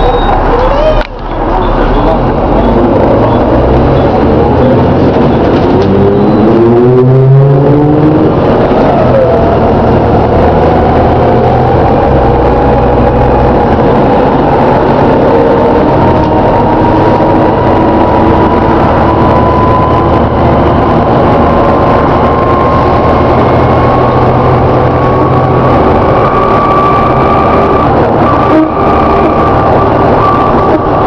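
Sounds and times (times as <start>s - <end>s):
bus engine drone: 0.0s - 31.0s
rising whine: 0.0s - 31.0s.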